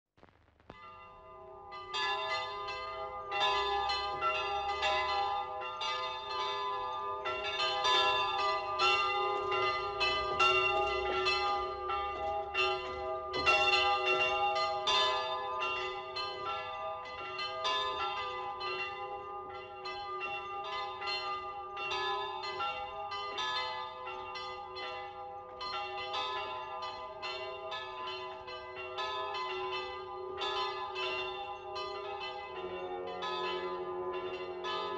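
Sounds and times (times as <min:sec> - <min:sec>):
church bells pealing: 0:00.8 - 0:34.9.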